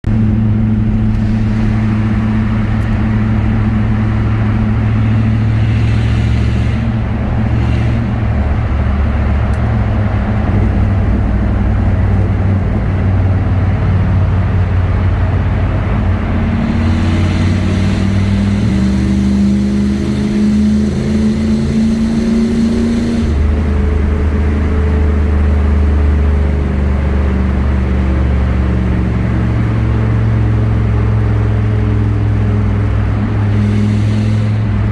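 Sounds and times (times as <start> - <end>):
loud car exhaust echoing in tunnel: 0.0 - 34.9.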